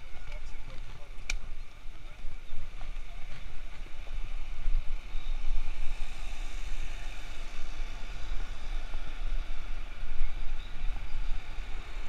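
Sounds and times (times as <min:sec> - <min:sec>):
passing cars and road noise: 0:00.0 - 0:12.0
wind rumble on microphone: 0:00.0 - 0:12.0.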